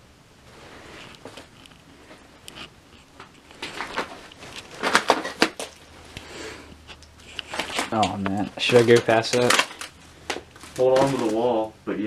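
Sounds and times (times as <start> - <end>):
footsteps crunching on debris: 0.6 - 2.3, 3.0 - 11.6.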